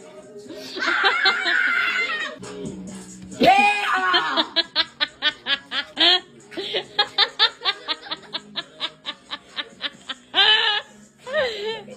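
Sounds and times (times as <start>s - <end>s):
person laughing hard: 0.6s - 2.4s, 3.5s - 11.9s.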